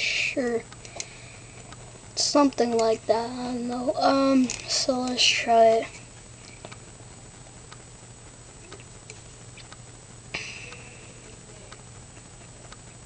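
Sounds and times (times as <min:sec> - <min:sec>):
steady low hum: 0:00.0 - 0:13.0
faint irregular clicks: 0:00.6 - 0:06.9, 0:08.6 - 0:13.0.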